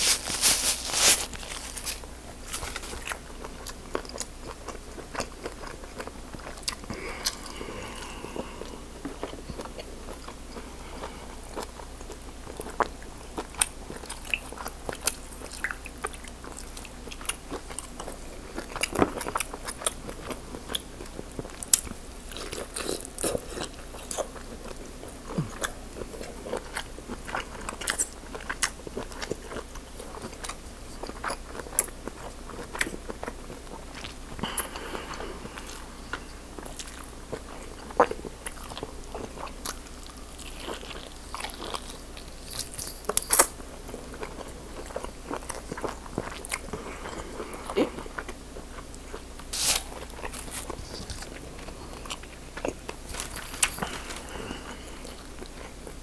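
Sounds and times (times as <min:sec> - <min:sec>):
chewing lobster meat: 0:00.0 - 0:56.0.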